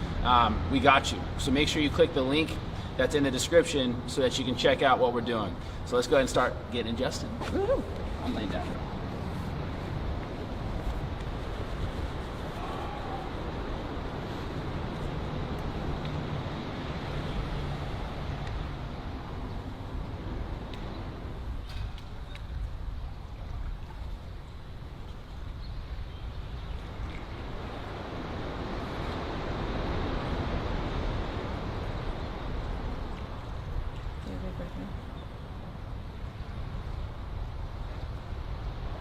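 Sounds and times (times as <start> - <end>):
wind on microphone: 7.4 - 39.0.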